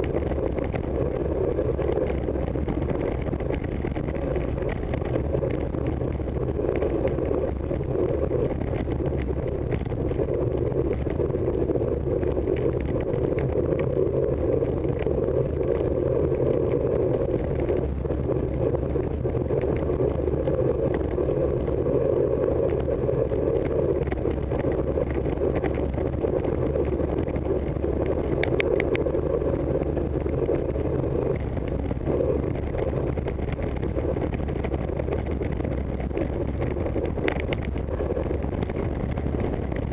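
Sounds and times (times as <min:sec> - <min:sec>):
bicycle road rumble: 0:00.0 - 0:39.9
wind on microphone: 0:00.0 - 0:39.9.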